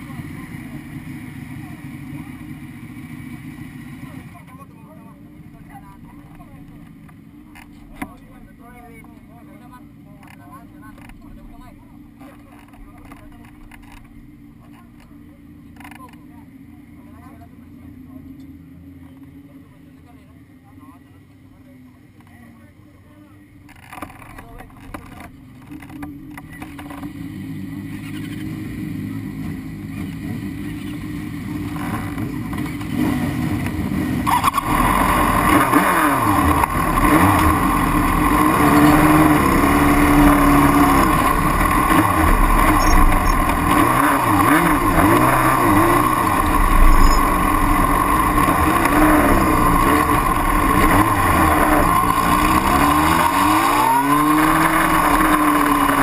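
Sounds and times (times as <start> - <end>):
motorcycle engines idling and revving: 0.0 - 56.0.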